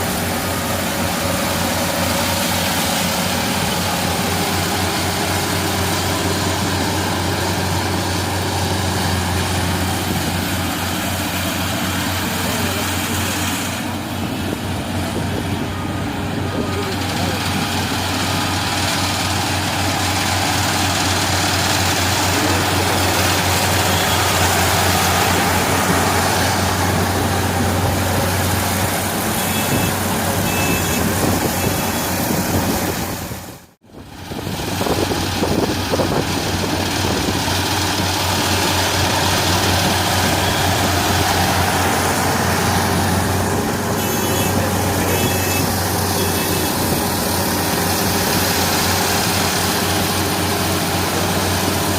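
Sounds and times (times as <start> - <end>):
combine harvester running: 0.0 - 51.9.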